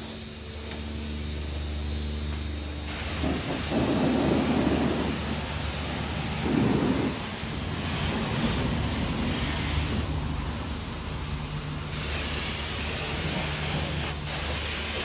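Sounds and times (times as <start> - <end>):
pressure washer spraying water: 0.0 - 10.3, 11.9 - 15.0.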